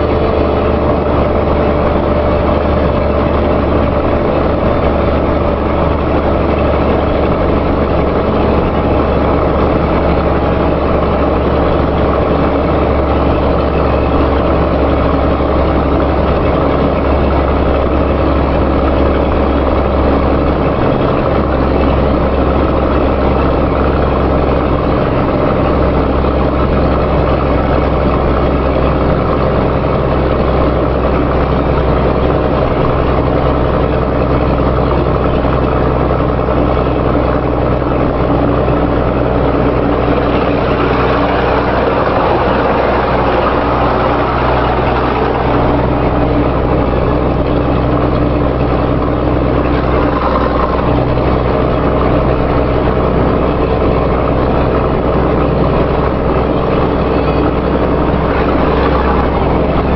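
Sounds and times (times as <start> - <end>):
engine idling with rumbling exhaust: 0.0 - 59.9.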